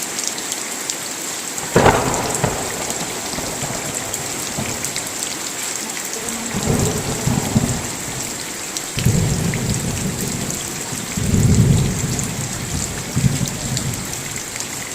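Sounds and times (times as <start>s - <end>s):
rain hissing and pattering: 0.0s - 14.9s
rolling thunder: 1.6s - 14.9s.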